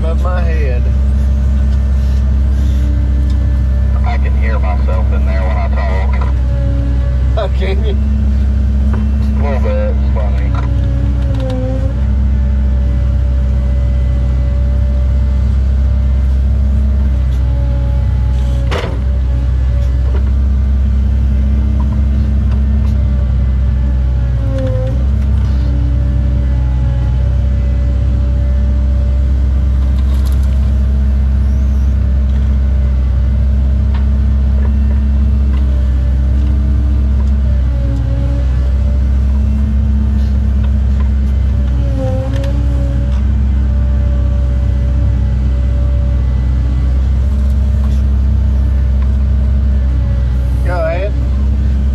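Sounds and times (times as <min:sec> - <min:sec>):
diesel engine running: 0:00.0 - 0:51.9
hydraulic whine: 0:00.0 - 0:51.9.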